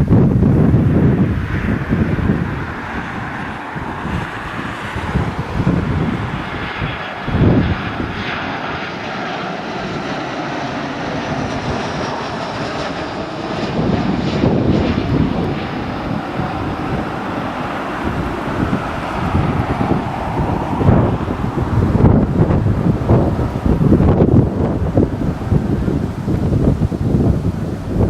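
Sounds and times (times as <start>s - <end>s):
faint high engine whine: 0.0s - 28.0s
jet engine rumble: 0.0s - 28.0s
wind buffeting microphone: 0.0s - 28.0s.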